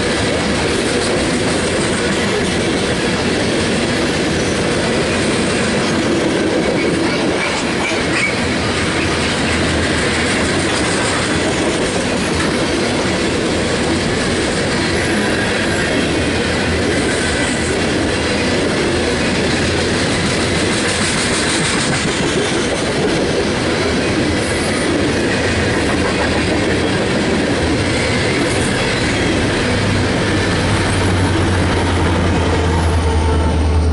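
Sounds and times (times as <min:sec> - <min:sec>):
freight train wheels on rail: 0:00.0 - 0:33.9.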